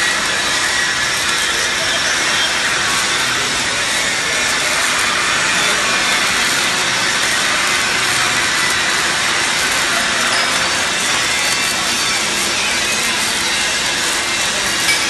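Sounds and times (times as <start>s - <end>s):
welding arc hissing: 0.5s - 15.0s.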